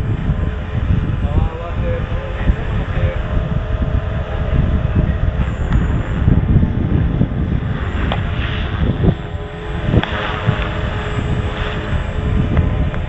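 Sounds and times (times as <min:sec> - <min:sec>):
model helicopter whine: 0:00.0 - 0:13.0
wind buffeting microphone: 0:00.0 - 0:13.0.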